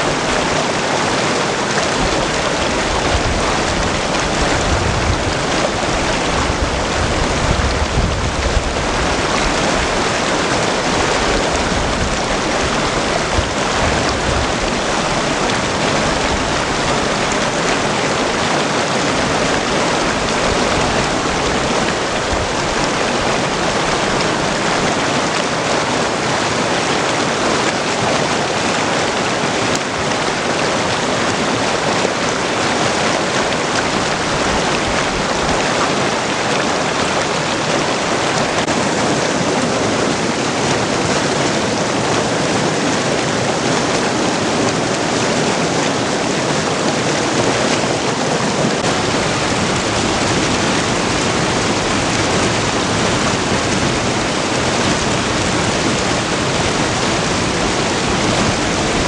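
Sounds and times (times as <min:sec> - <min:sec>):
creek rushing over rocks: 0:00.0 - 0:59.0.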